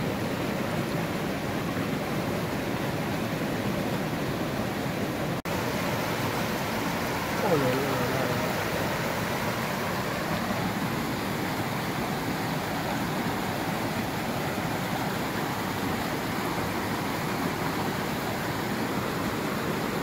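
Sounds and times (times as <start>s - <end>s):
creek rushing over boulders: 0.0s - 20.0s.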